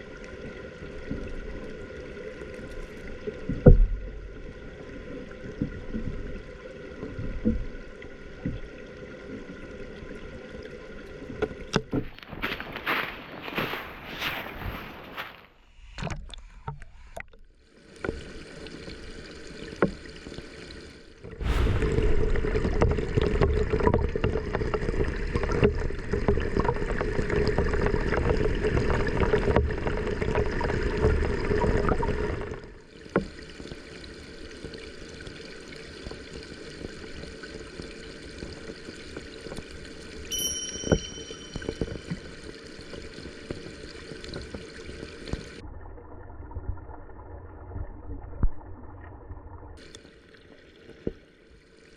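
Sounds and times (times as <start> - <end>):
stream water rushing and gurgling: 0.0 - 15.6, 17.0 - 46.1.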